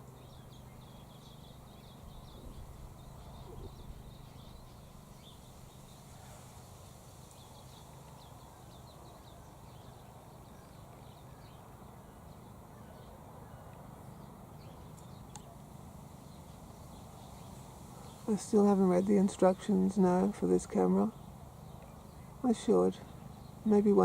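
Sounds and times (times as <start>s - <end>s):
faint birdsong chirps: 0.0s - 24.0s
steady low hum: 0.0s - 24.0s.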